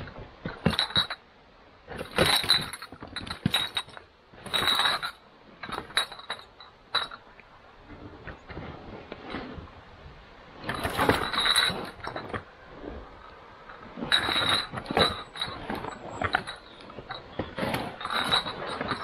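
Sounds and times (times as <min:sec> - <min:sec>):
cart rattling over rocks: 0:00.0 - 0:19.0.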